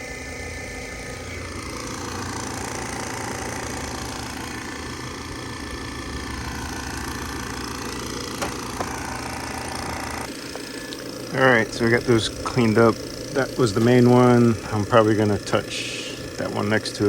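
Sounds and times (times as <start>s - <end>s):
refrigerant recovery machine running: 0.0s - 17.0s.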